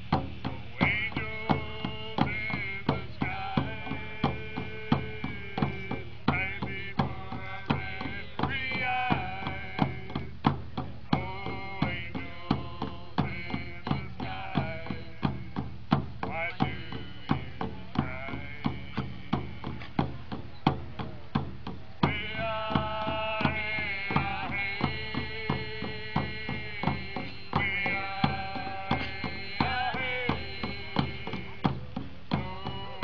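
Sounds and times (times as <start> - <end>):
hand drums beating: 0.0 - 33.0
group of voices singing: 0.1 - 20.1, 22.0 - 33.0.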